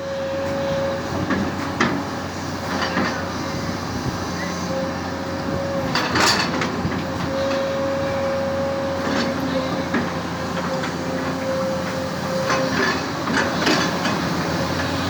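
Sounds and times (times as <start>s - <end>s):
excavator running: 0.0s - 15.0s.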